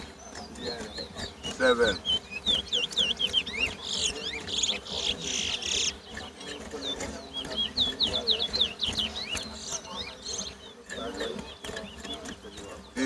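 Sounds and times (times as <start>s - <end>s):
finch singing whistled notes: 0.0s - 13.0s.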